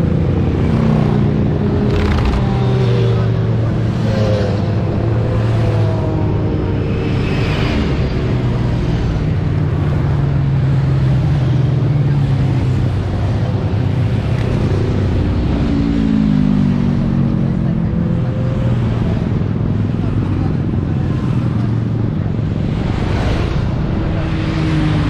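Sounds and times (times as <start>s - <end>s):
motorcycles riding past: 0.1s - 25.0s.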